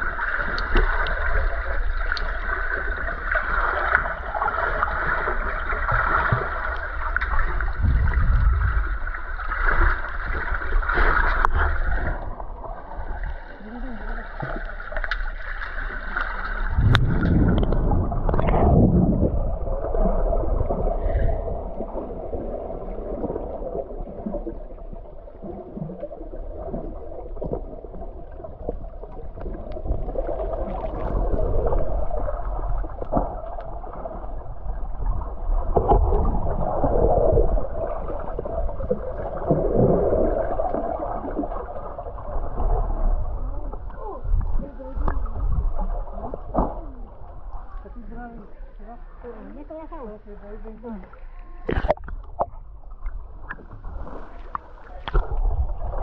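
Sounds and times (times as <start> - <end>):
underwater churning gurgle: 0.0 - 49.7, 50.8 - 56.0.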